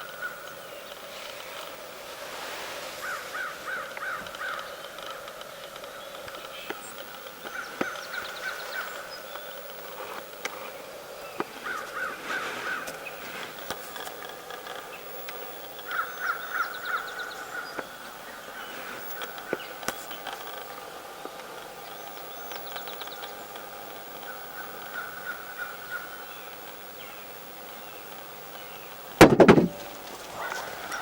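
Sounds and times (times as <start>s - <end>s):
birds calling: 0.0s - 31.0s
faint clicks: 0.0s - 31.0s.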